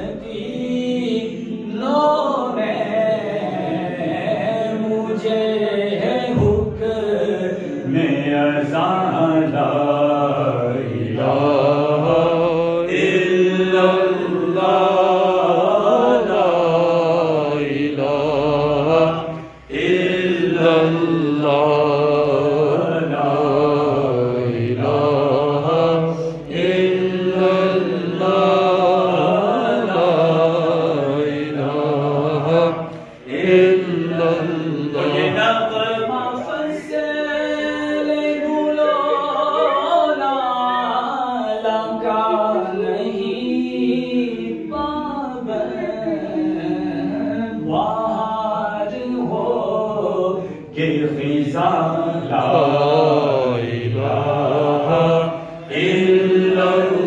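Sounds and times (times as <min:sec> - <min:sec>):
man chanting into a microphone: 0:00.0 - 0:57.0.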